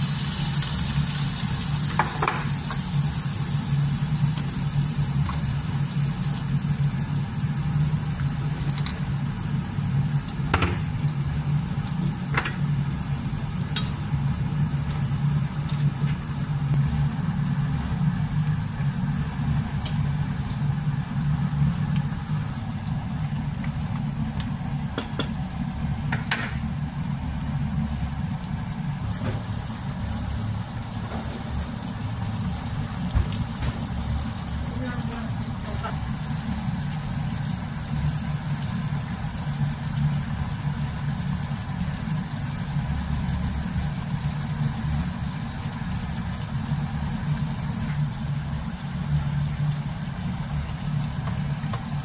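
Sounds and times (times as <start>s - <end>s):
liquid bubbling in a wok: 0.0s - 52.0s.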